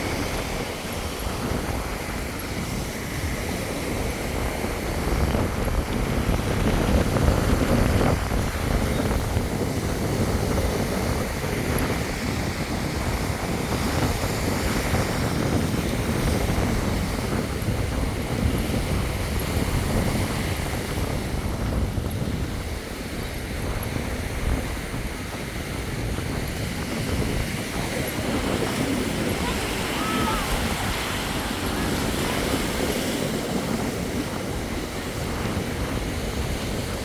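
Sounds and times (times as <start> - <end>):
surf washing: 0.0 - 37.0
wind buffeting microphone: 0.0 - 37.0.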